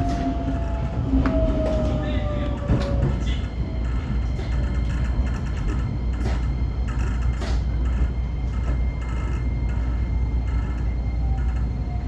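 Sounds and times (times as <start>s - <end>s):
railcar cab low rumble: 0.0s - 12.0s.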